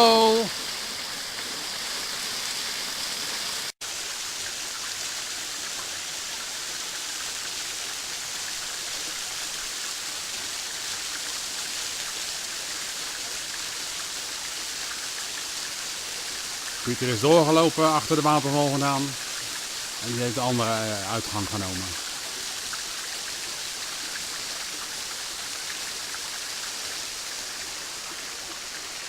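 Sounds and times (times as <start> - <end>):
waterfall splashing: 0.0 - 29.0.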